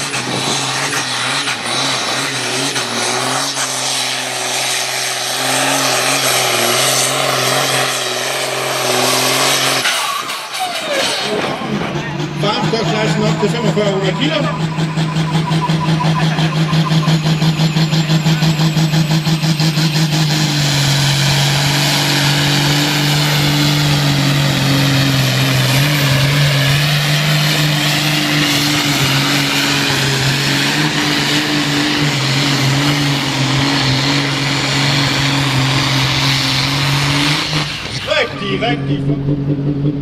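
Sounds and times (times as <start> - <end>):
tractor diesel engine at full load: 0.0 - 40.0.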